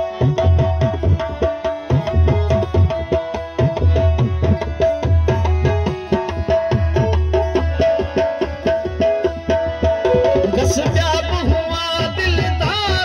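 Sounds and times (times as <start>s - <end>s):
harmonium melody: 0.0s - 13.0s
tabla rhythm: 0.0s - 13.0s.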